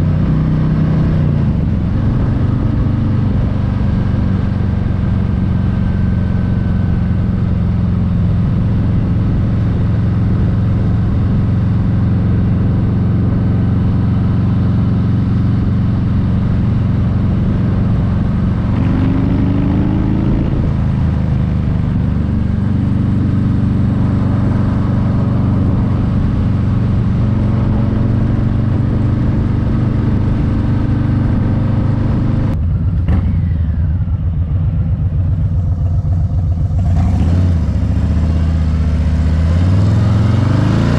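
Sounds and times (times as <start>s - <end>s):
motorcycle exhaust note: 0.0s - 40.9s.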